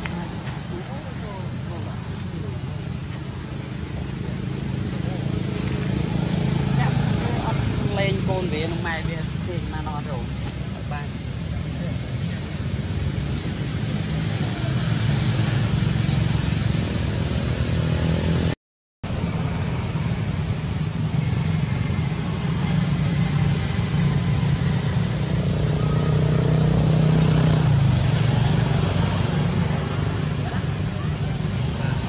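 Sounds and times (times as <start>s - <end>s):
low traffic rumble: 0.0s - 32.0s.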